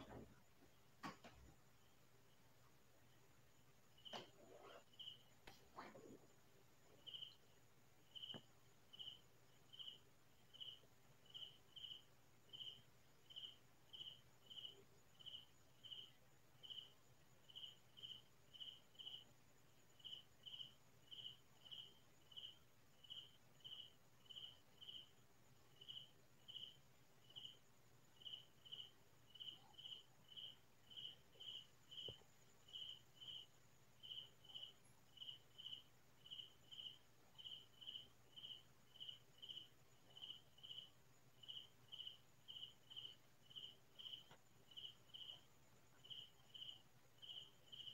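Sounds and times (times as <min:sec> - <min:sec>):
cricket chirping: 0:00.0 - 0:47.9.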